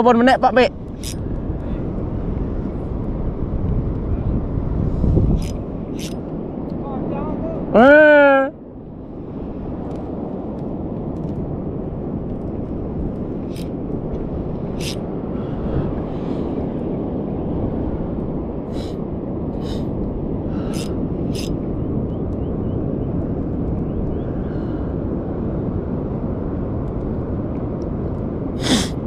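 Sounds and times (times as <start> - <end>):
wind on the microphone: 0.0 - 29.0.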